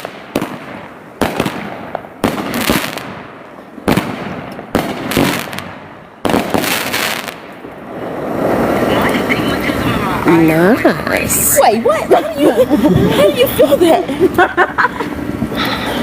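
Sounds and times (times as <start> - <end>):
fireworks bangs: 0.0 - 13.9.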